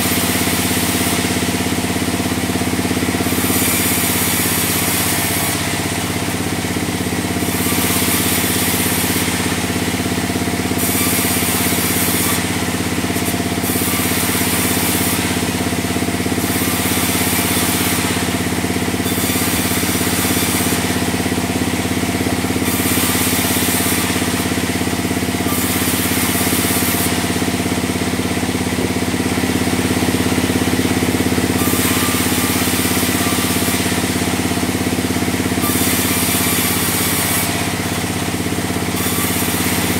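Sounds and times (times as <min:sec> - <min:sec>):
band saw machine hum: 0:00.0 - 0:39.9
saw blade hissing through log: 0:00.0 - 0:39.9.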